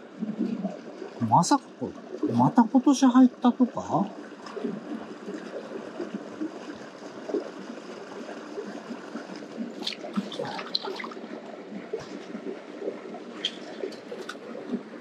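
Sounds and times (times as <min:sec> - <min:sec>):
stream gurgling over rocks: 0:00.4 - 0:15.0.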